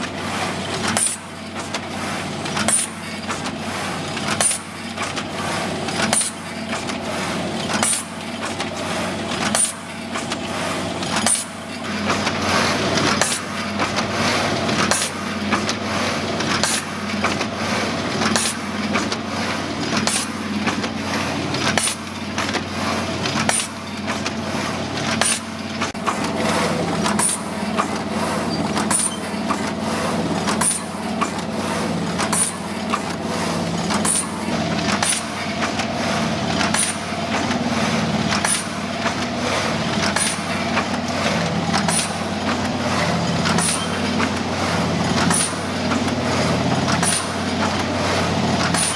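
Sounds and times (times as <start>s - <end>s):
machine clacking: 0.0s - 48.9s
packing machine humming: 0.0s - 48.9s.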